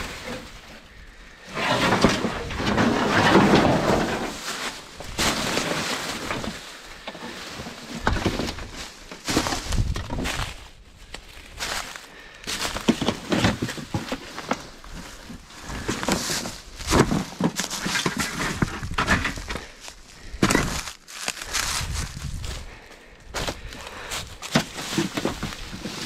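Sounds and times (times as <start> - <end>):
footsteps on dry leaves: 4.0 - 26.0.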